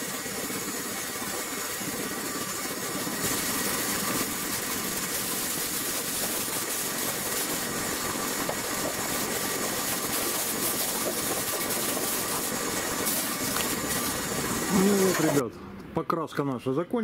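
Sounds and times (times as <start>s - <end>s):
spray gun hissing: 0.0s - 15.4s.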